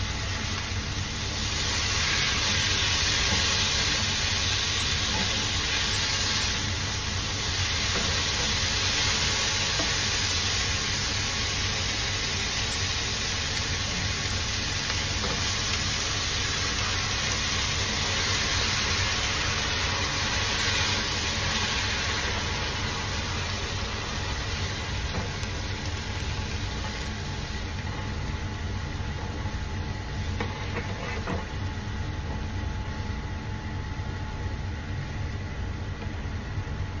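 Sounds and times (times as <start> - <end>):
food sizzling in a frying pan: 0.0 - 33.5
steady low hum: 0.0 - 37.0.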